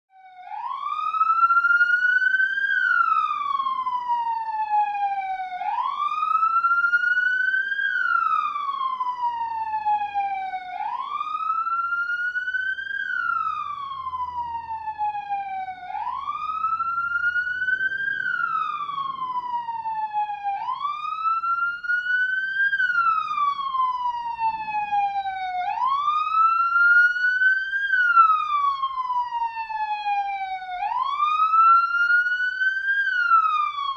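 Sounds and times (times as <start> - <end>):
police siren wailing: 0.1 - 33.9.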